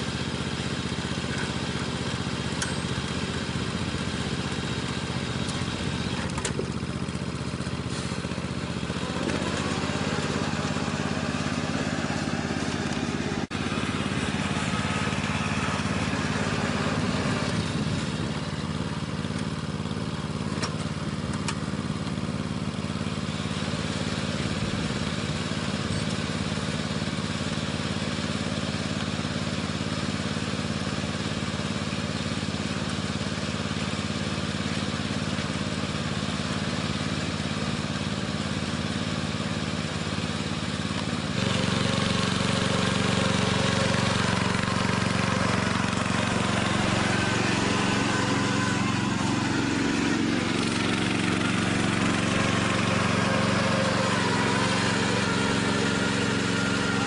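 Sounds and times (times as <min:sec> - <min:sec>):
ride-on lawn mower engine: 0:00.0 - 0:57.0.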